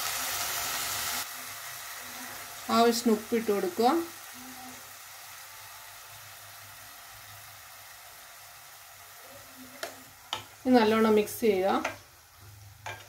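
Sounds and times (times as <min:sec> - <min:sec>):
pan sizzling hiss: 0:00.0 - 0:13.0.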